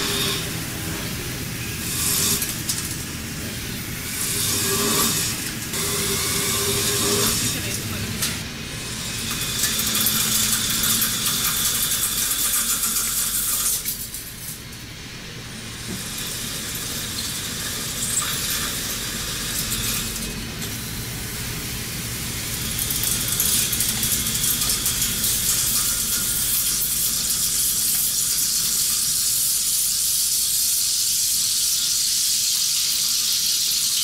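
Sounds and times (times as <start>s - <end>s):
high hiss of metal cutting: 0.0s - 14.7s, 15.5s - 34.0s
coolant spraying: 0.0s - 34.0s
faint machine whine: 0.0s - 34.0s.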